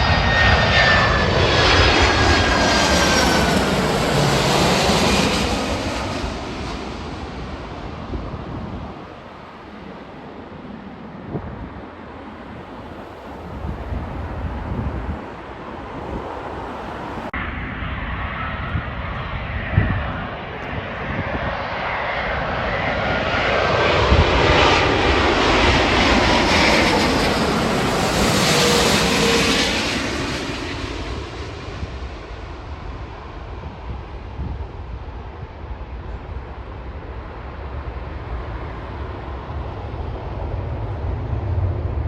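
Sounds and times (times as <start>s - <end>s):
jet airliner passing: 0.0s - 42.0s.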